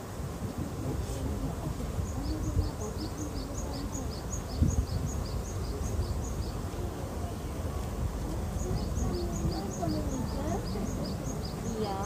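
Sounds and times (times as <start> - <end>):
murmur of voices: 0.4 - 12.0.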